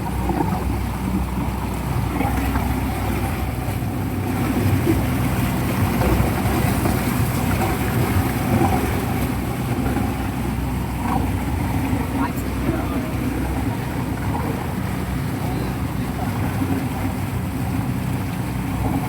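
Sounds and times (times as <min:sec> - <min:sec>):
outboard engines droning: 0:00.0 - 0:19.0.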